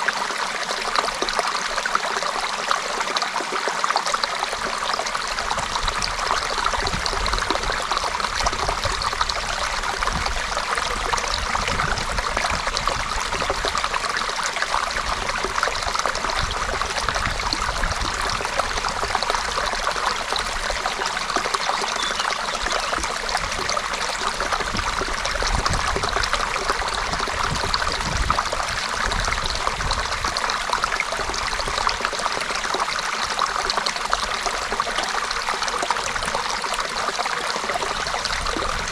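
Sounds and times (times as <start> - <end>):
creek water over stones: 0.0 - 38.9.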